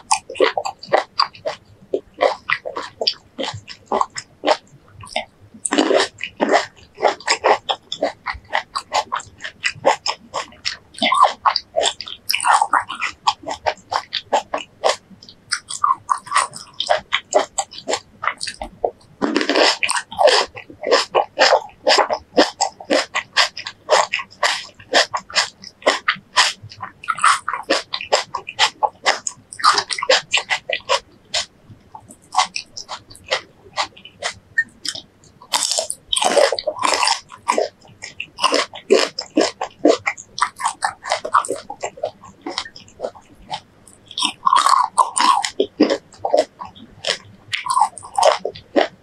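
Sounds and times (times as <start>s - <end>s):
chewing crunchy fruit: 0.0s - 49.0s
mouth clicks: 0.0s - 49.0s.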